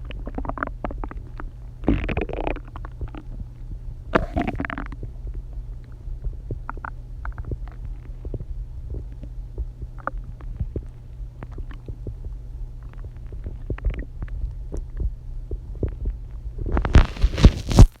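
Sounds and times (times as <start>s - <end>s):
steady low hum: 0.0s - 18.0s
stomach growling and gurgling: 0.0s - 18.0s.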